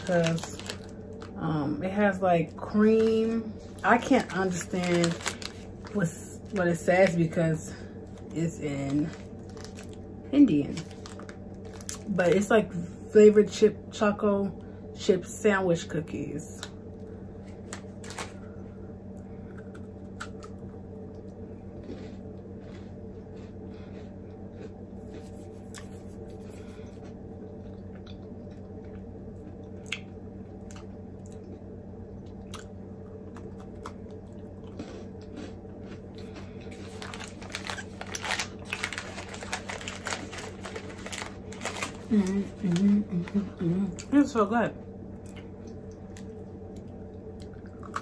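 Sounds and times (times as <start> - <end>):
cookie crunching and chewing: 0.0 - 1.4, 2.5 - 12.4, 16.6 - 18.6, 19.4 - 44.4, 45.2 - 48.0
low hum: 0.0 - 48.0.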